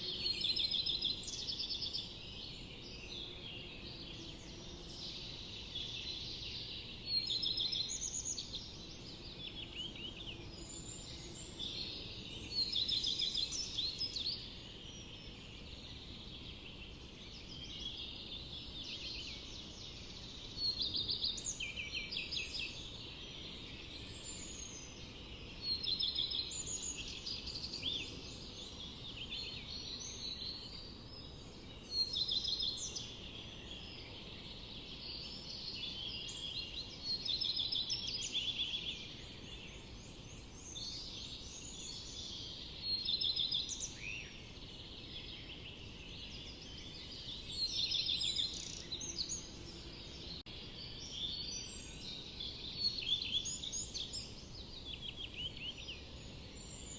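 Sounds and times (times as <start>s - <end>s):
low background noise: 0.0s - 56.9s
songbirds chirping: 0.0s - 56.9s.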